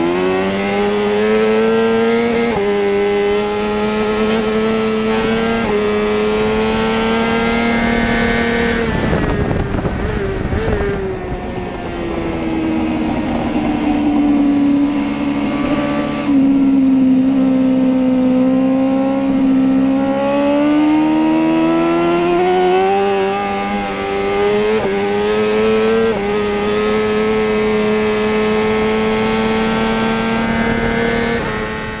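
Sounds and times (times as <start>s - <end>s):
motorcycle engine revving: 0.0s - 32.0s
quick gear upshifts: 0.0s - 32.0s.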